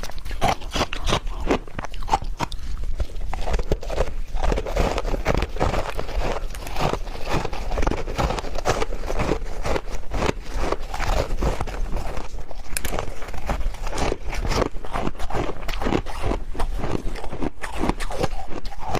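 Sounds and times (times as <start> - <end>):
ice crunched between teeth: 0.0 - 18.9.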